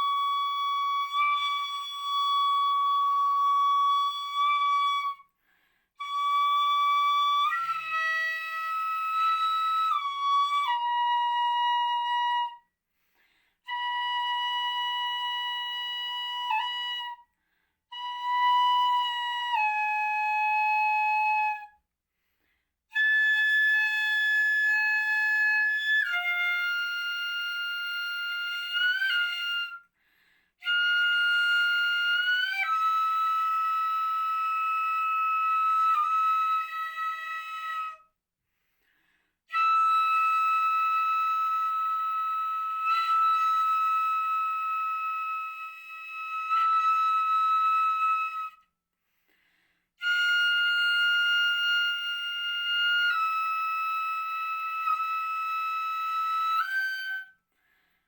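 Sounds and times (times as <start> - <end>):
bamboo flute melody: 0.0 - 12.8, 13.6 - 21.8, 22.9 - 29.9, 30.6 - 38.2, 39.5 - 48.8, 50.0 - 57.8.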